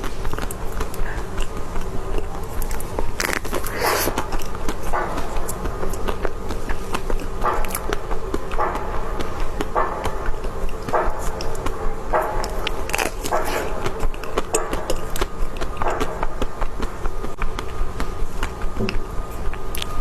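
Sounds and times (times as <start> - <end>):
sticky mouth clicks: 0.0 - 17.6
mouth chewing and smacking: 0.0 - 20.0.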